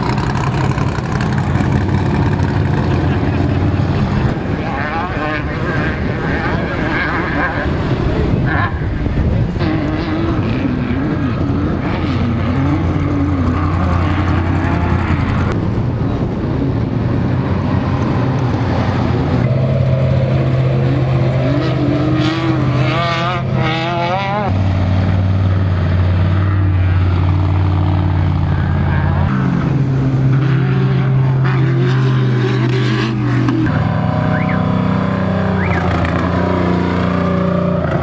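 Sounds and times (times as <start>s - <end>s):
race vehicle engines revving: 0.0s - 38.0s.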